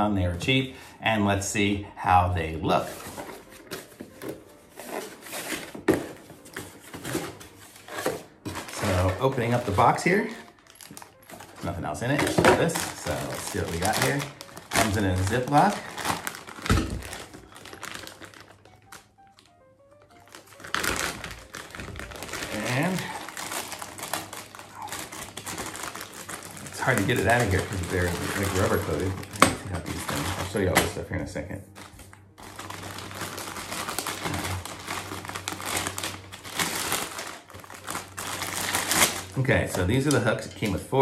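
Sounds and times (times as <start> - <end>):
plastic bag crinkling: 2.7 - 31.0, 31.7 - 40.4.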